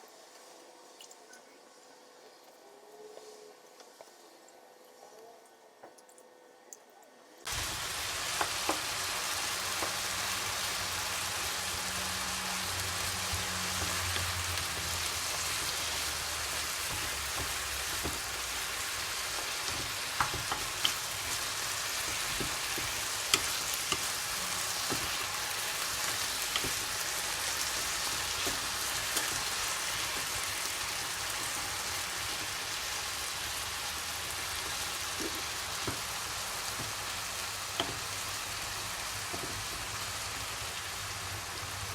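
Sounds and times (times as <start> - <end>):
food sizzling in hot oil: 7.5 - 41.9.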